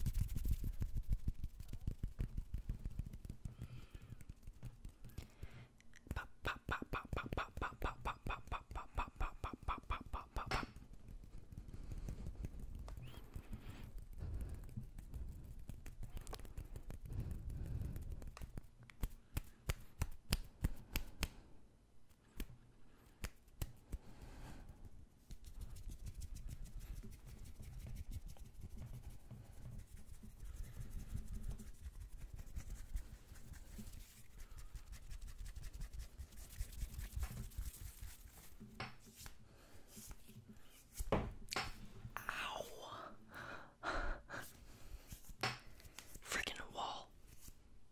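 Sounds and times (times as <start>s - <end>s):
hands rubbing skin: 0.0s - 21.4s, 22.1s - 42.8s, 44.3s - 47.6s.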